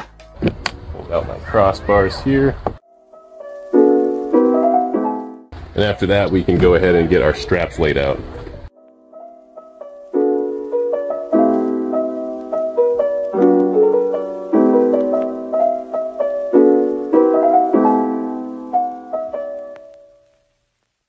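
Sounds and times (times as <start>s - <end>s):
piano chords ringing: 1.1s - 7.7s, 8.7s - 20.3s.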